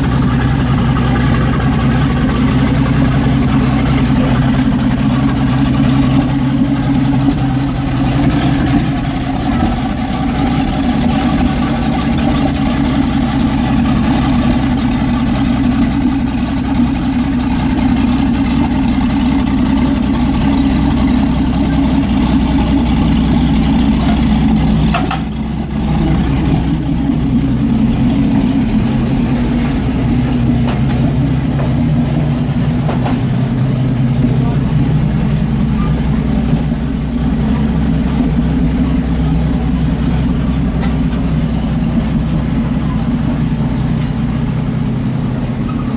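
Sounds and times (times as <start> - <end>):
tank engine idling: 0.0 - 45.9.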